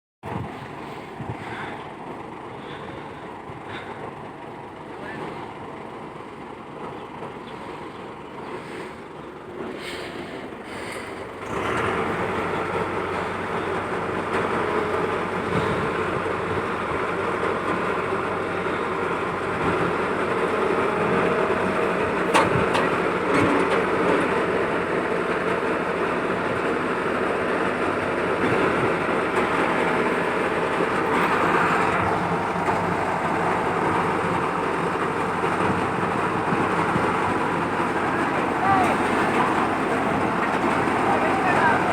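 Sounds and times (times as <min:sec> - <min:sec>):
combine harvester running: 0:00.2 - 0:41.9.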